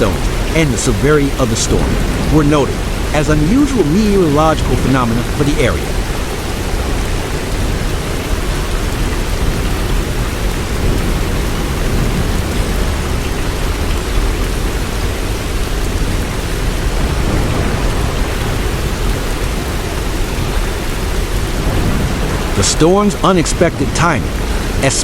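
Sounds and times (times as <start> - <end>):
hail and rain pelting: 0.0 - 25.0.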